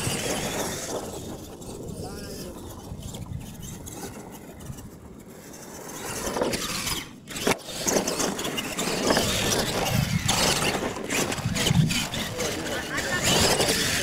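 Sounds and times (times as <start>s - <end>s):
toy truck motor and tyres on dirt: 0.0s - 14.0s.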